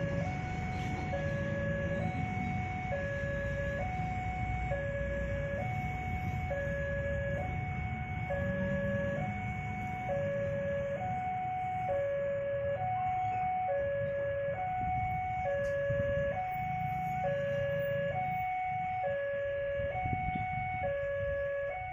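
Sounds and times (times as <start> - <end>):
two-tone crossing alarm: 0.0 - 21.9.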